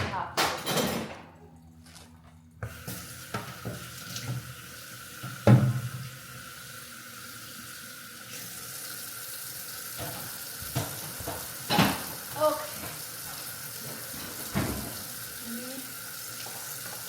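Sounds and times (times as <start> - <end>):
water running into sink: 0.7 - 17.0.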